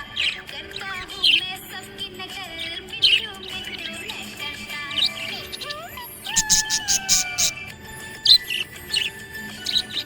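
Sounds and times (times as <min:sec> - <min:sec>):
budgerigar chirping: 0:00.0 - 0:01.8, 0:02.5 - 0:10.0
background music: 0:00.0 - 0:10.0.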